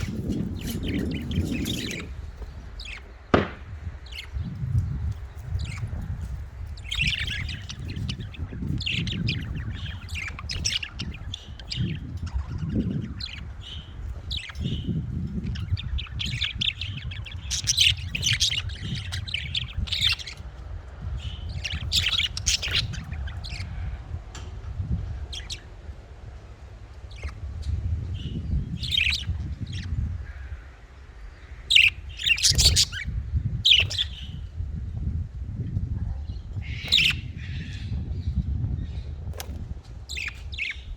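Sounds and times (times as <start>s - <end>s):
budgerigars chirping and chattering: 0.0s - 25.9s, 26.9s - 34.6s, 35.9s - 40.9s
low background rumble: 0.0s - 40.9s.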